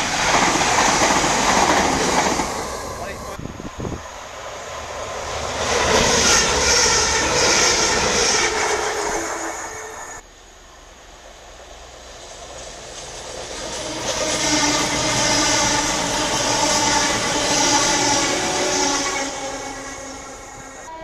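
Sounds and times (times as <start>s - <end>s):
diesel train approaching: 0.0s - 21.0s
diesel train passing: 0.0s - 21.0s.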